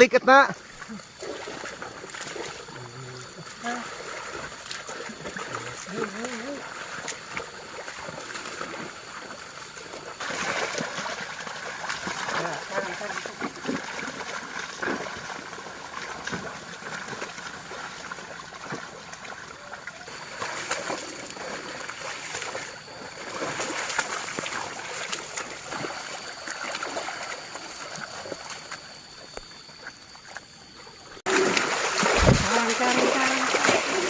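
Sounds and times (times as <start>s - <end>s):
muddy water sloshing and splashing: 0.6s - 34.0s.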